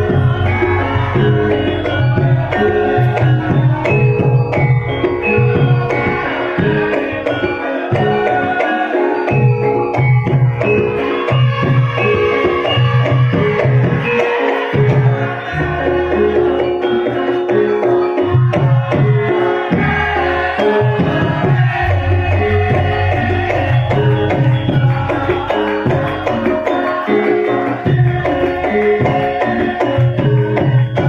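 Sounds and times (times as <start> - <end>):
ringing metallophone tones: 0.0 - 31.0.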